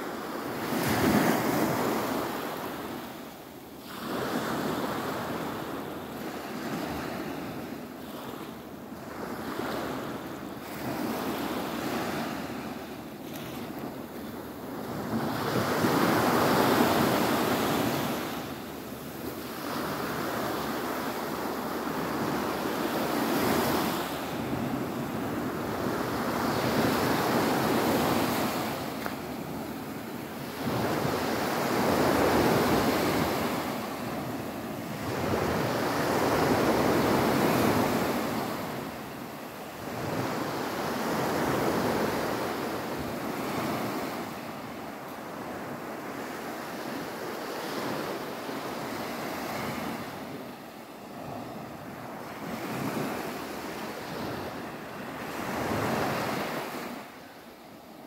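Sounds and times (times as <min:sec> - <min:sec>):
small waves breaking on beach: 0:00.0 - 0:57.8.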